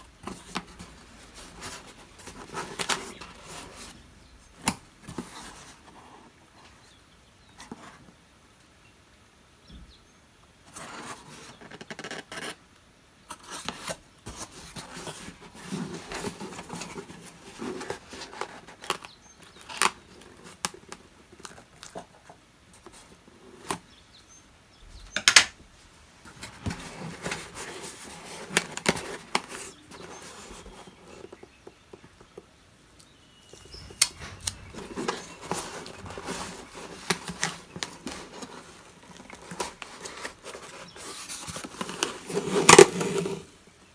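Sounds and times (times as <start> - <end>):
cardboard rustling and scraping: 0.0 - 4.0, 4.6 - 6.8, 10.7 - 12.6, 13.3 - 23.8, 26.2 - 32.4, 33.3 - 43.6.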